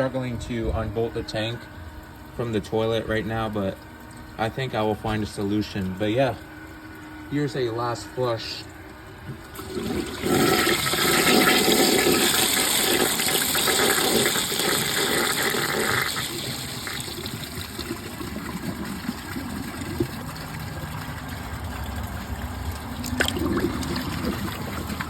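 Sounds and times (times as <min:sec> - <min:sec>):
toilet flushing: 0:00.0 - 0:25.0.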